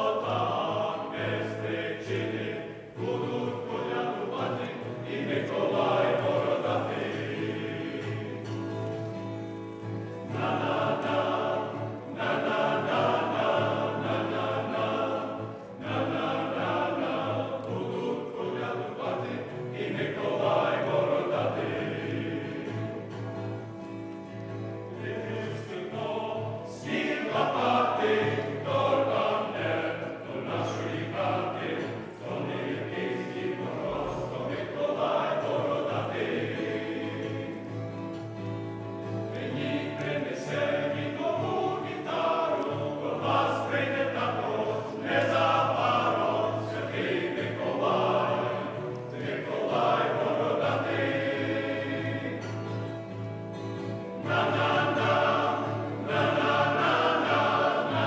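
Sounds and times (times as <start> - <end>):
acoustic guitar: 0.0 - 58.0
men's choir singing a carol: 0.0 - 58.0.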